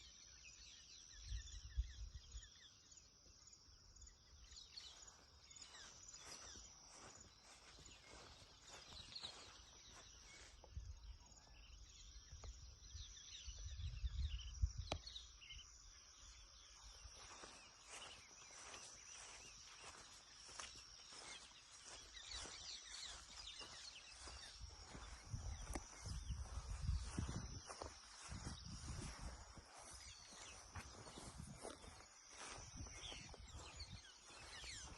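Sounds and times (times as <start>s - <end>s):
high insect trill: 1.2s - 34.9s
bird chirps: 4.1s - 34.9s.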